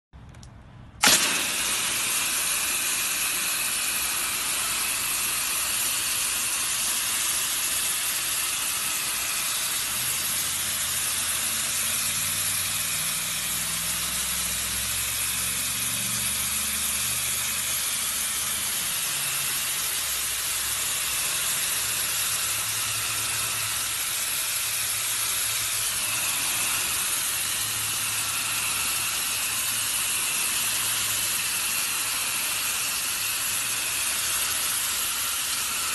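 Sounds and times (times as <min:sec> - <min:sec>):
pressure washer hissing: 0:01.0 - 0:35.9.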